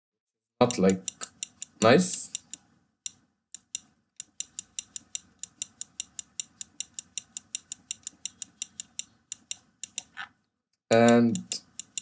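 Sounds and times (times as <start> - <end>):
computer mouse clicking: 0.6 - 10.3, 10.9 - 12.0.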